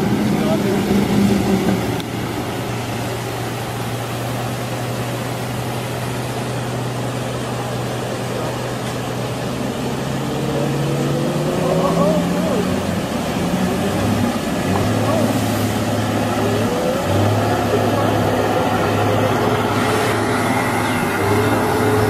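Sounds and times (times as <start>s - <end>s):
rushing water: 0.0s - 22.0s
truck diesel engine drone: 0.0s - 22.0s.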